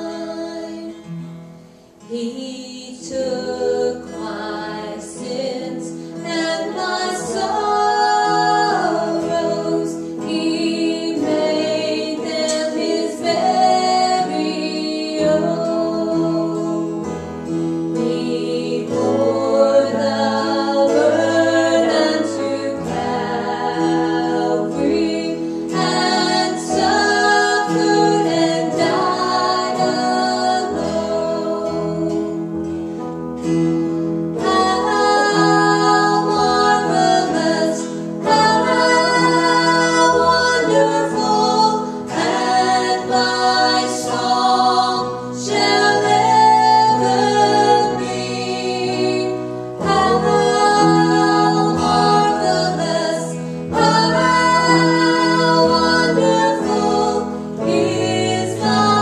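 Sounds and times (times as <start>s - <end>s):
strummed acoustic guitar: 0.0s - 2.2s, 3.0s - 59.0s
women singing a hymn: 0.0s - 59.0s.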